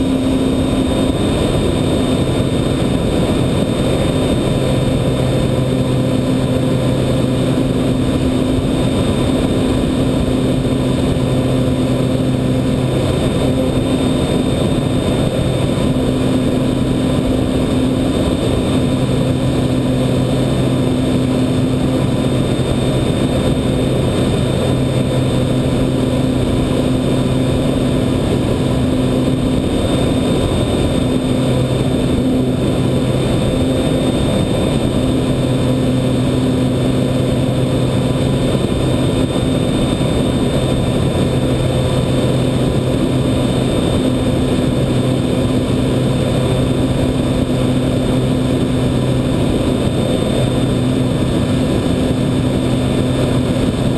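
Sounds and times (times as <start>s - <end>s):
electric motor and propeller hum: 0.0s - 53.9s
wind rush on microphone: 0.0s - 53.9s.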